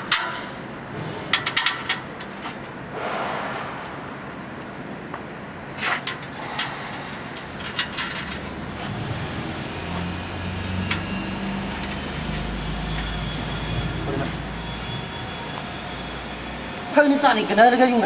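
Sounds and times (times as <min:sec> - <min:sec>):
low engine drone: 0:02.9 - 0:18.0.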